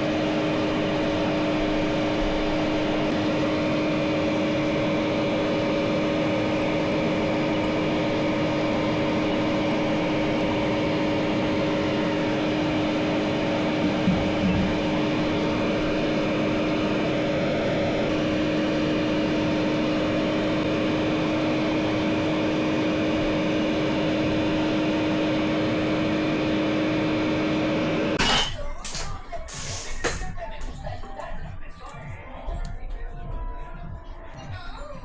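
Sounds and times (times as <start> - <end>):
appliance motor humming: 0.0 - 32.8.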